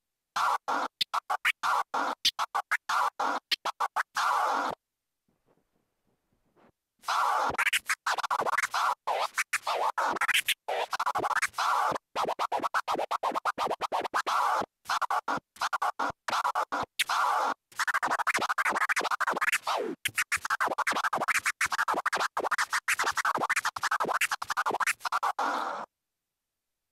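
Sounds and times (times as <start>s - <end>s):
vinyl record scratching: 0.4s - 4.8s, 7.0s - 25.9s.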